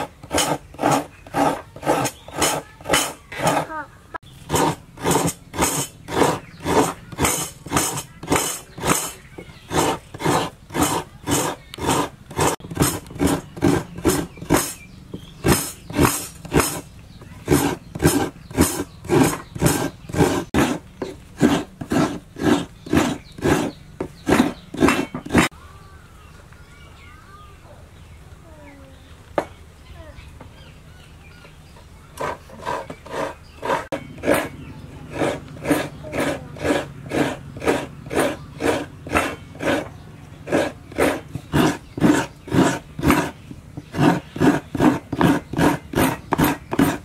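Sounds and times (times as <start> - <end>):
coconut rasping on grater: 0.0 - 3.7, 4.4 - 25.5, 32.2 - 47.0.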